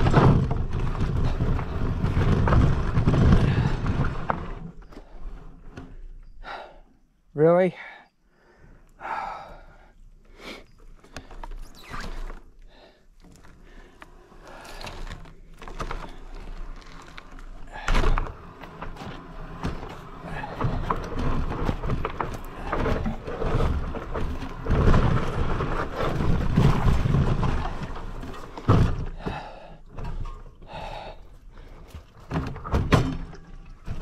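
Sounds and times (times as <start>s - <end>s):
bike rattling on dirt trail: 0.0s - 6.7s, 10.9s - 34.0s.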